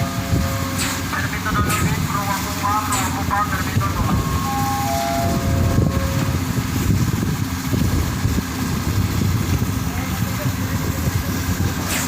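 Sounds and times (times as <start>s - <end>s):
large diesel engine rumbling: 0.0s - 12.0s.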